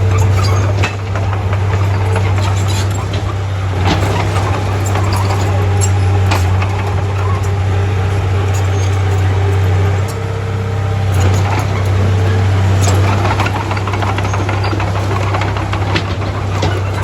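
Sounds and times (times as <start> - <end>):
heavy diesel engine running: 0.0 - 17.0
knocks and clatter: 0.1 - 17.0.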